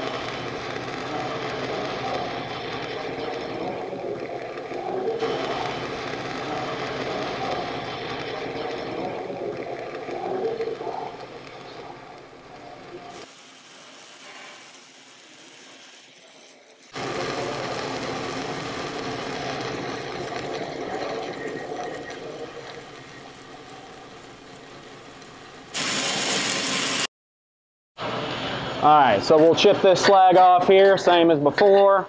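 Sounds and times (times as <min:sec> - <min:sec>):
welding arc crackling hiss: 0:00.0 - 0:27.1.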